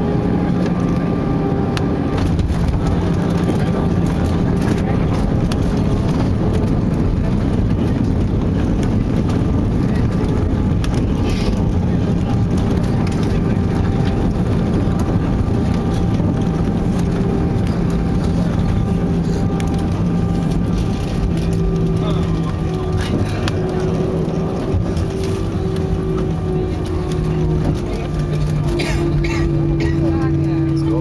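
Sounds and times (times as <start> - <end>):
airplane engine and wheels rumble: 0.0 - 31.0.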